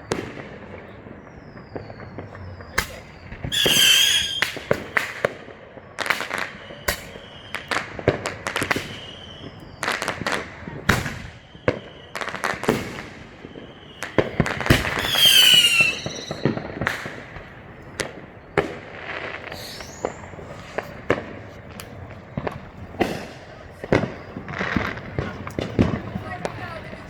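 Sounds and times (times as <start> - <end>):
fireworks bangs and pops: 0.0 - 27.0
whistling firework: 0.0 - 27.0.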